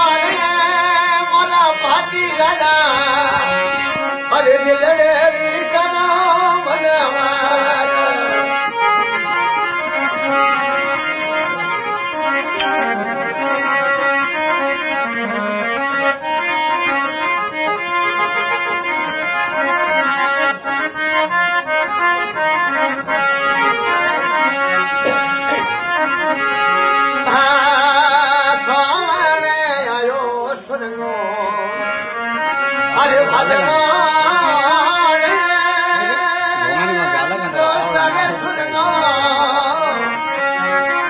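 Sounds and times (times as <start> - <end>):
harmonium melody: 0.0 - 41.0.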